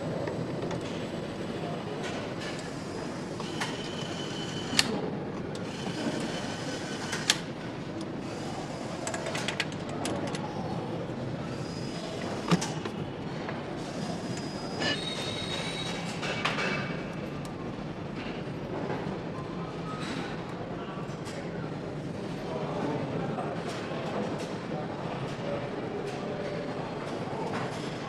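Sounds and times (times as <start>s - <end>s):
machine hall noise: 0.0s - 28.0s.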